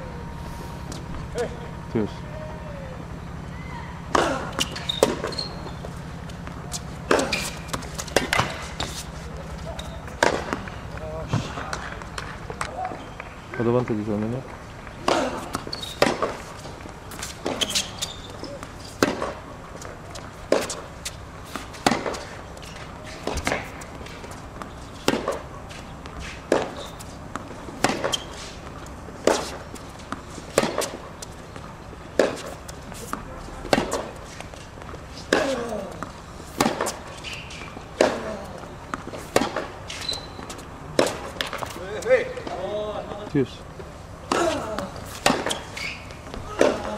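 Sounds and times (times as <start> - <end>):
tennis ball bouncing: 3.2 - 13.2, 14.2 - 46.9
racket hitting tennis ball: 4.0 - 12.8, 14.9 - 42.8, 43.8 - 46.9.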